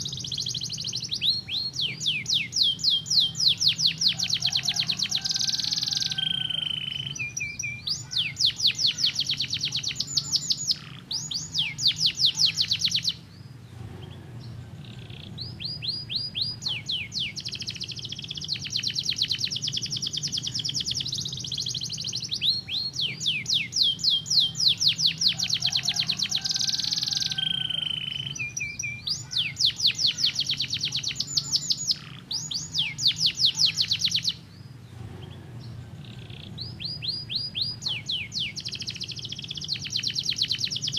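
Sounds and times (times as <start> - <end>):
canary singing trills: 0.0 - 40.9
low steady hum: 0.0 - 40.9.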